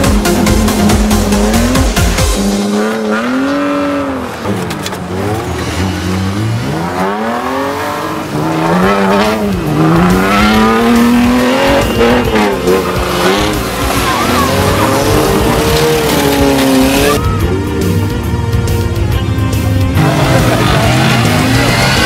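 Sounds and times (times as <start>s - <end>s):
stock car engines revving: 0.0s - 22.0s.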